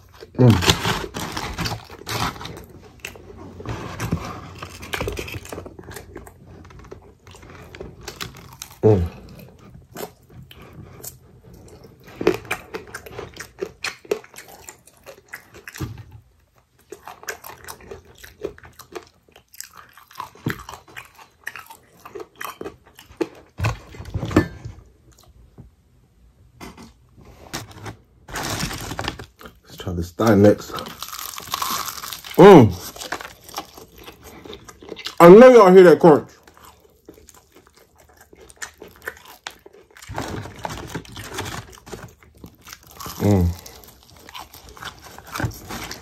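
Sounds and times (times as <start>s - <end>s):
crunching of fried coating: 0.0s - 24.0s, 28.3s - 46.0s
chewing fried chicken: 0.0s - 24.2s, 28.6s - 46.0s.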